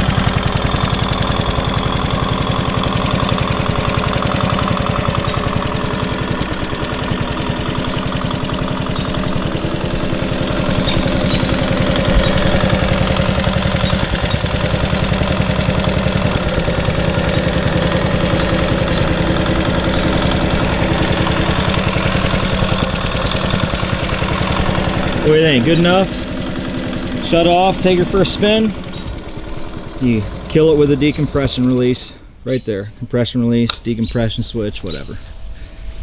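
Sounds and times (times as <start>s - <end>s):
moped engine idling: 0.0s - 36.0s.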